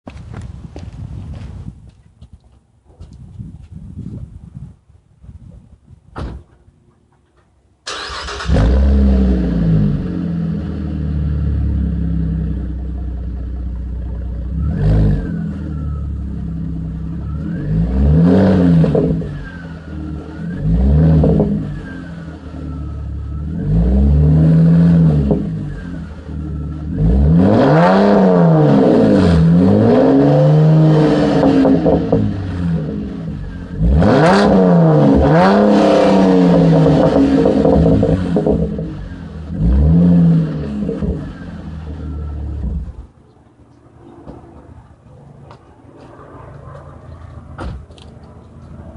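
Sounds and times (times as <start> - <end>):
car engine idling and revving: 7.9 - 48.9.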